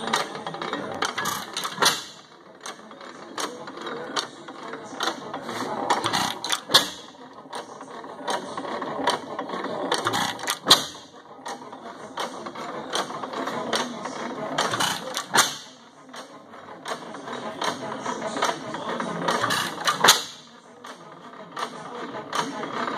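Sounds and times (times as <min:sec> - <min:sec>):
engine parts clattering: 0:00.0 - 0:20.7.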